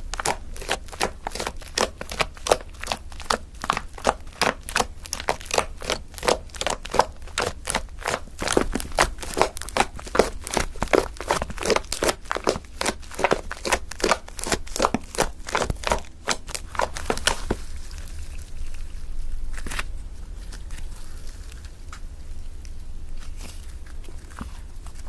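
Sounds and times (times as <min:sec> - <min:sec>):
slime popping and squelching: 0:00.0 - 0:22.1.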